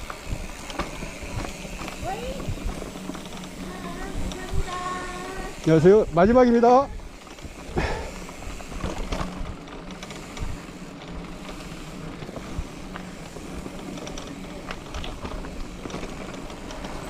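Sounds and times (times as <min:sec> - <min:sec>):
bicycle tyre and wind noise: 0:00.0 - 0:17.0
bike clicks and rattles: 0:00.0 - 0:17.0.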